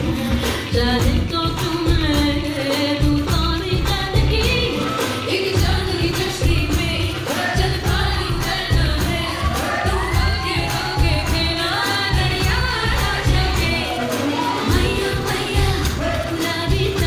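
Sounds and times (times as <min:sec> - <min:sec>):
bass-heavy beat: 0:00.0 - 0:04.8, 0:05.6 - 0:17.0
dance song with singing: 0:00.0 - 0:17.0.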